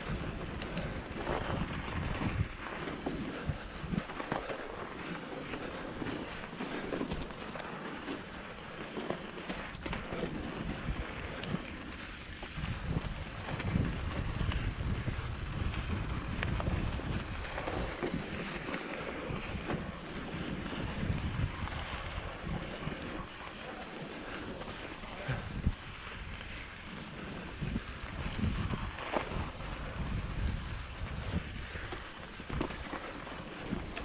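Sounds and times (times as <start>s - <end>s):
bike clicks and rattles: 0.0s - 34.0s
bike tyres on snow: 0.0s - 34.0s
wind rumbling on microphone: 0.0s - 34.0s.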